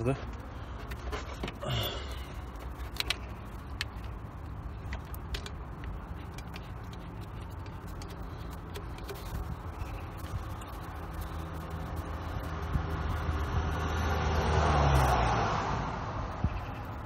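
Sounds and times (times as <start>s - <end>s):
low steady hum: 0.2s - 14.2s.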